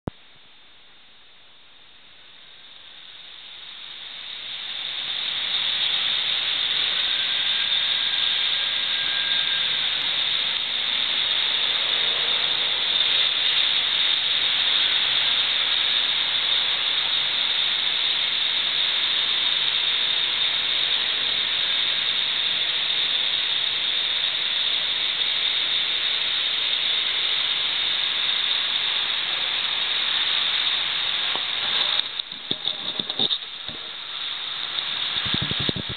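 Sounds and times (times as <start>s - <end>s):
rain pouring: 2.6s - 35.9s.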